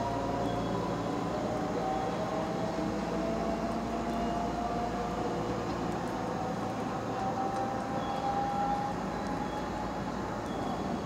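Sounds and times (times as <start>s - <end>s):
electric train drive whine: 0.0s - 11.0s.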